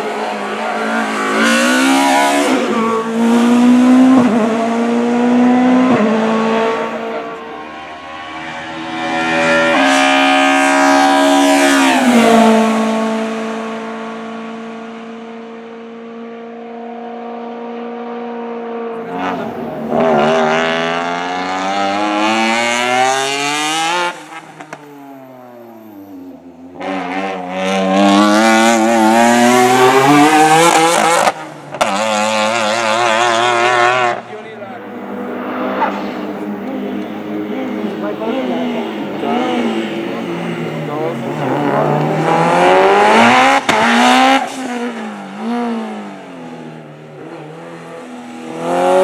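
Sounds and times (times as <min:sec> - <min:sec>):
race car engines at full throttle: 0:00.0 - 0:49.0.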